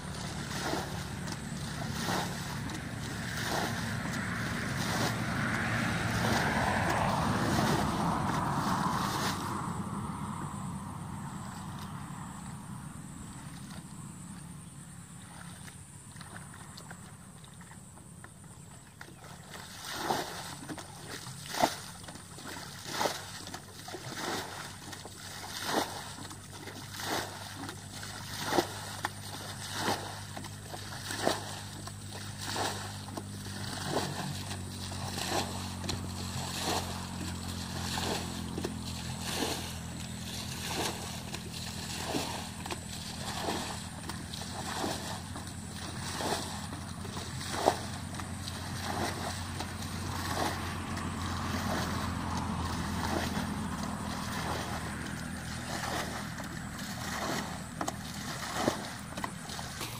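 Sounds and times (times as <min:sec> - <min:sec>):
bucket splashing water: 0:00.0 - 0:10.4, 0:18.8 - 0:59.9
low steady hum: 0:00.0 - 0:59.9.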